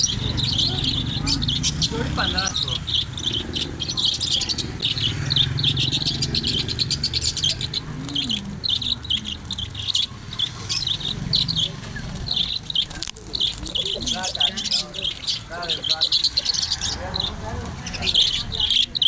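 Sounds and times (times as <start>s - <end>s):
lovebirds chirping: 0.0s - 19.0s.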